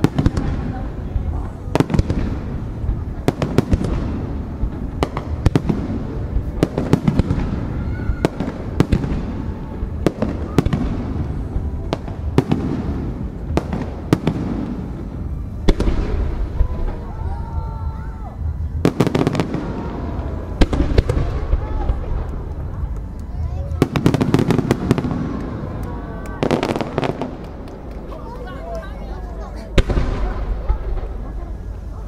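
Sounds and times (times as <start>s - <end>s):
continuous low rumble: 0.0s - 32.0s.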